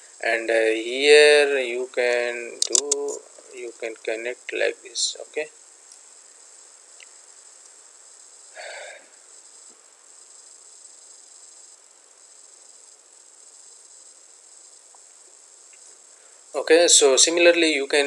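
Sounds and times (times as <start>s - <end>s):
microphone hiss: 0.0s - 18.0s.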